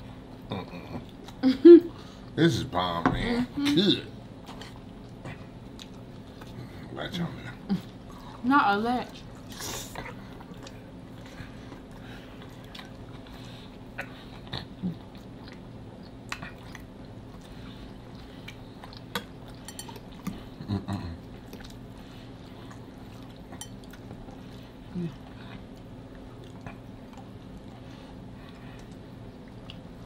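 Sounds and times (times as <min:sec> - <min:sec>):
steady low hum: 0:00.0 - 0:30.0
person chewing food: 0:03.6 - 0:08.4, 0:09.1 - 0:30.0.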